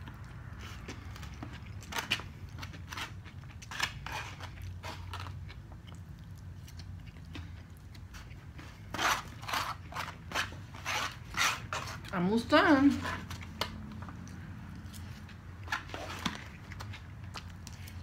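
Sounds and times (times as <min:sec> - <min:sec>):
crunchy chewing: 0:00.0 - 0:12.1, 0:13.1 - 0:18.0.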